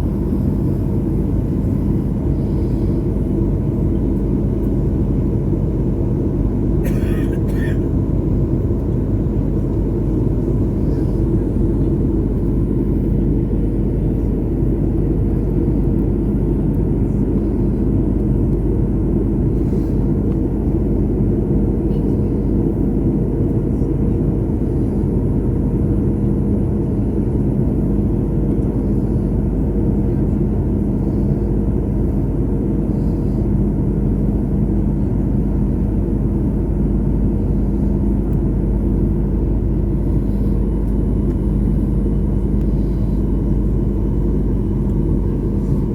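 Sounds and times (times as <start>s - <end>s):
jet airliner cabin rumble: 0.0s - 45.9s.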